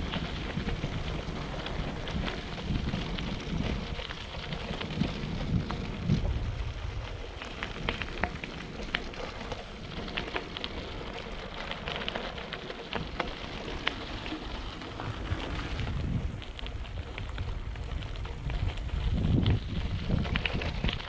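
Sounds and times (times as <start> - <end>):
bicycle tyres rolling on gravel: 0.0 - 21.0
wind buffeting microphone: 0.0 - 21.0.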